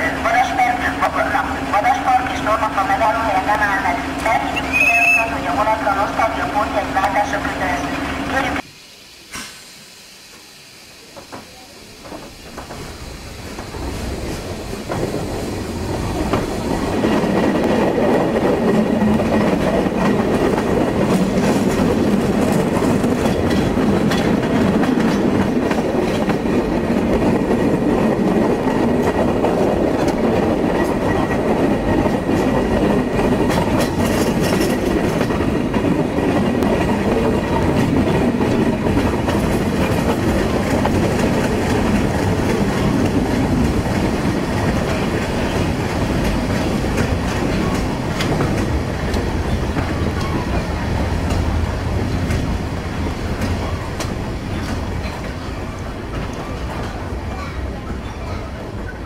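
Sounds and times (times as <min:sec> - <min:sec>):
train wheels clattering: 0:11.1 - 0:59.0.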